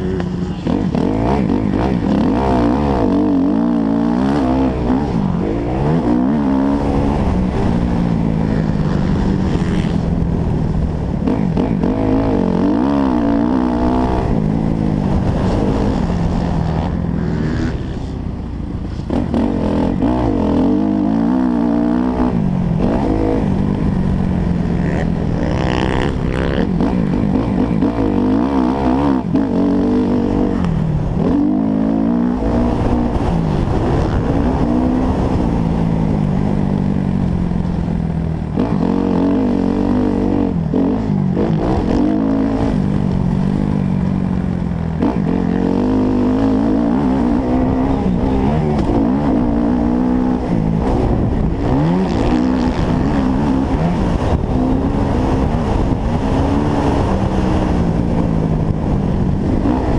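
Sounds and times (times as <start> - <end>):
motocross bike engine revving: 0.0 - 18.2, 18.8 - 36.6, 44.7 - 59.9.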